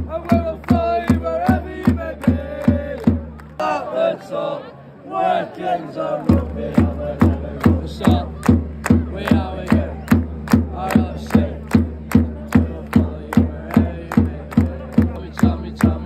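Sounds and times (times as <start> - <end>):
crowd clapping to a beat: 0.0 - 3.8, 6.1 - 16.0
stadium crowd chanting: 0.0 - 16.0.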